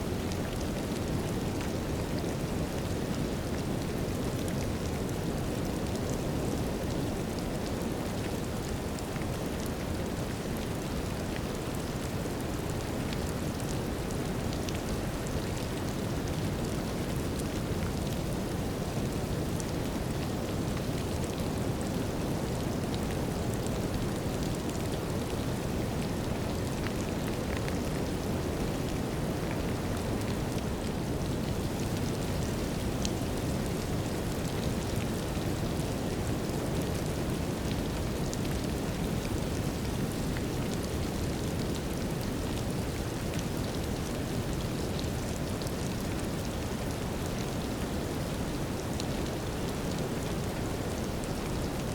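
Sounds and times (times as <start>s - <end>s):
brown noise hiss: 0.0s - 51.9s.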